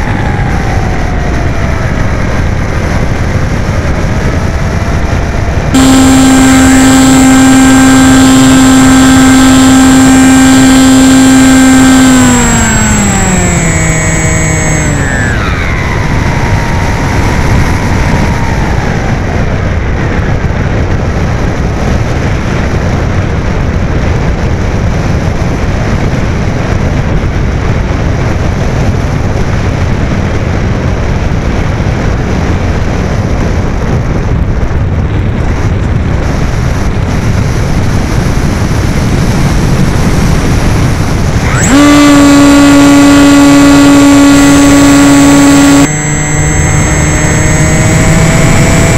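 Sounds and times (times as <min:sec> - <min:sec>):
electric motor whine: 0:00.0 - 0:27.2, 0:36.2 - 0:48.9.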